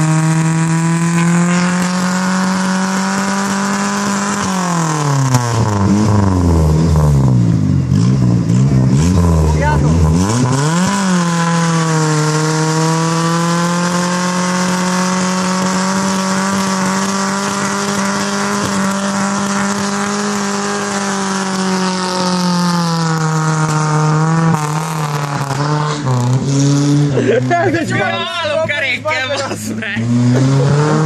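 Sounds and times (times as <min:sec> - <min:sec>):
car engine revving high: 0:00.0 - 0:31.0.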